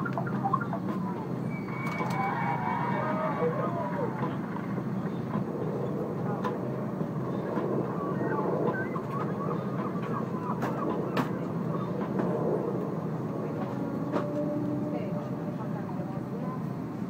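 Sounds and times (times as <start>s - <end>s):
aircraft engines rumbling: 0.0s - 17.0s.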